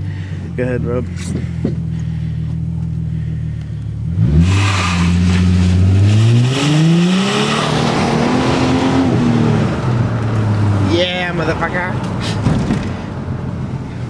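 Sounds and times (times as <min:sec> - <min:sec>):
car engine idling and accelerating: 0:00.0 - 0:14.0.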